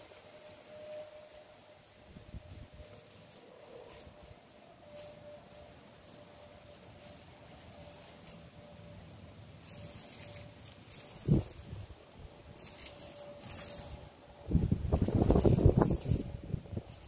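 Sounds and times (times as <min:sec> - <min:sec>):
leafy branch rustling on dirt: 0:00.0 - 0:17.0.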